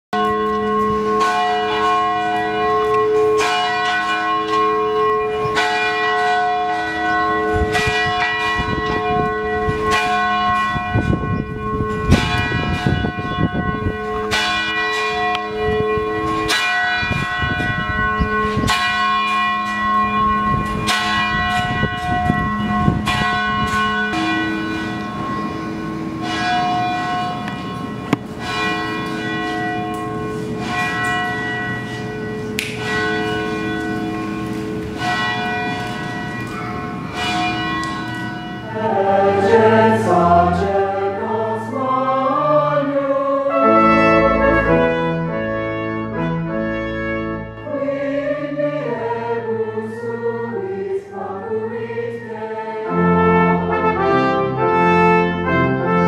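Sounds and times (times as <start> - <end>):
church bells pealing: 0.2 - 56.0.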